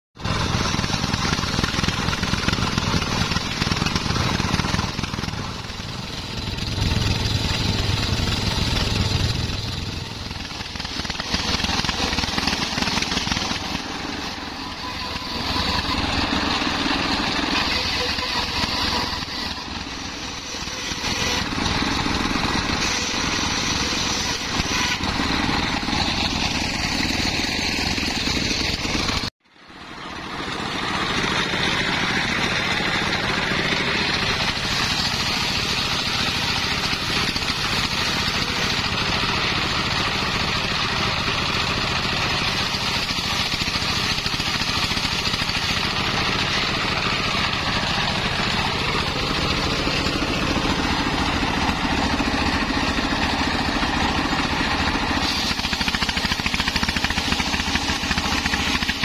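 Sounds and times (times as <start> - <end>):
circular saw cutting wood: 0.2 - 59.0
stationary engine running: 0.2 - 59.0.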